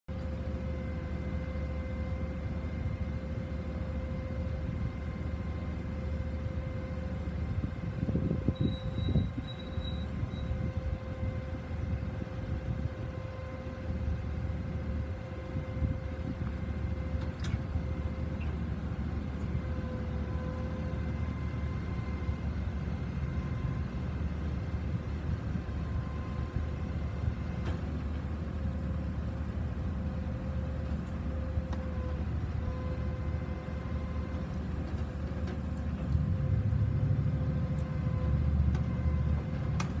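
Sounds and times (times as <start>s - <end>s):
hydraulic boom whine: 0.1s - 40.0s
truck engine rumbling: 0.1s - 40.0s.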